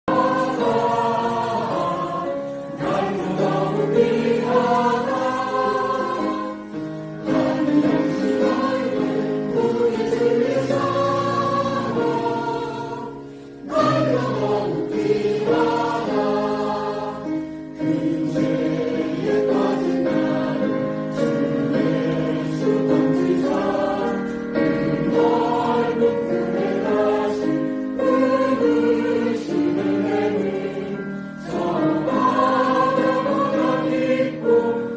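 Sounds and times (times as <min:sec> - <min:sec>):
church choir singing: 0:00.0 - 0:34.9.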